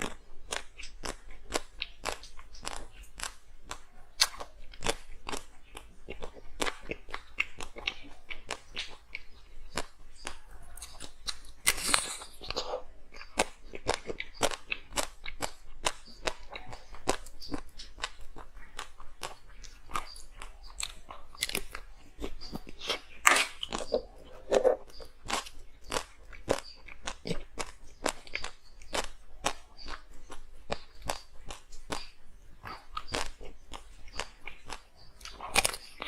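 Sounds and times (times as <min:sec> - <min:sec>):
ice being chewed: 0:00.0 - 0:36.0.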